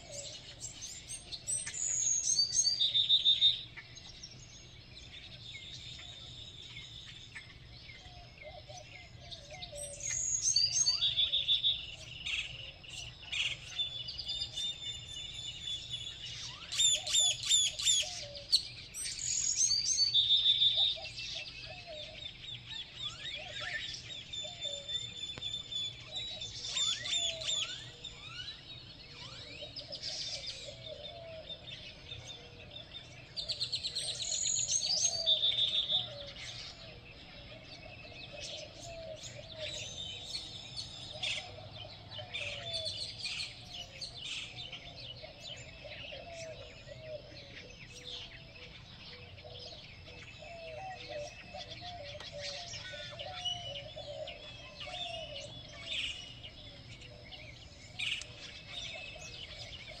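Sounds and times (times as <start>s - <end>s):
low repeated bird calls: 0.0s - 60.0s
songbirds chirping and singing: 0.0s - 60.0s.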